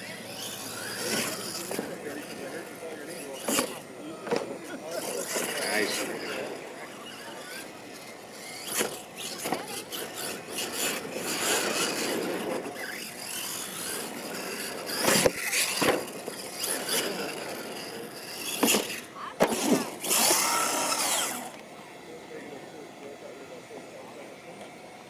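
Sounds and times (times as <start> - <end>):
toy truck motor whining: 0.0 - 22.6.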